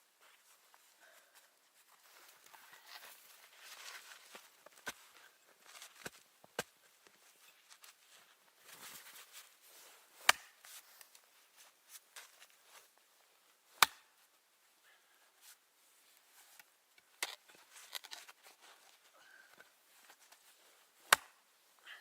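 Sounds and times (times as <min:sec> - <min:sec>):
rustling and handling: 0:00.1 - 0:13.6, 0:15.4 - 0:21.8.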